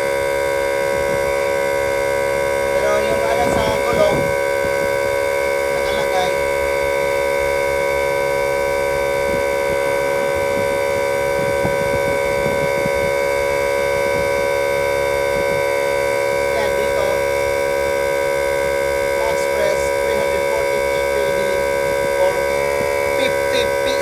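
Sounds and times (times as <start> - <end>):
air compressor whining: 0.0 - 24.0.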